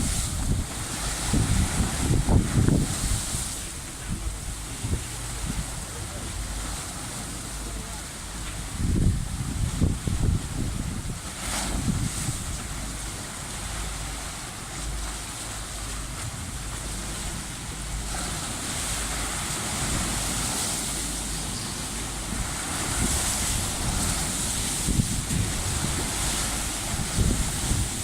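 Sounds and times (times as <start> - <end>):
sea waves washing in: 0.0 - 28.0
wind buffeting microphone: 0.0 - 28.0.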